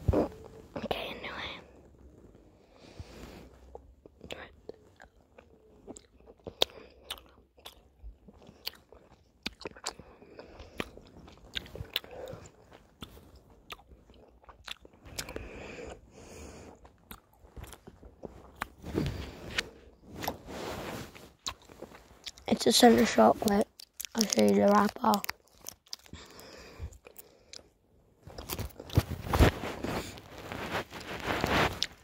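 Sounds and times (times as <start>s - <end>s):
person chewing gum: 0.0s - 1.6s, 3.4s - 32.0s.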